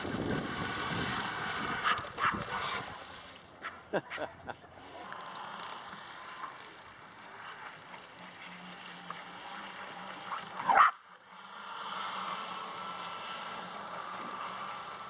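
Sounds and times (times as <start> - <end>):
high electric motor whine: 0.0 - 3.6, 4.6 - 15.0.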